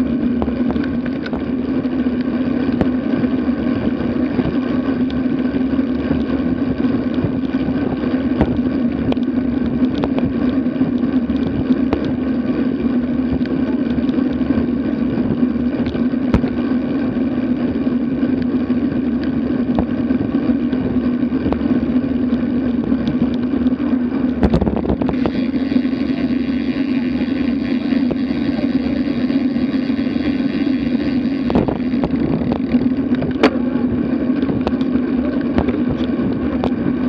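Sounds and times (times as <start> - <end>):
bike clicks and knocks: 0.0 - 37.0
wind and road noise: 0.0 - 37.0.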